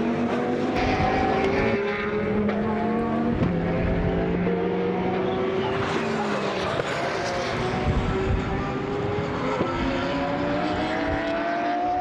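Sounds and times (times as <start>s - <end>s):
race car engines at full throttle: 0.0s - 12.0s.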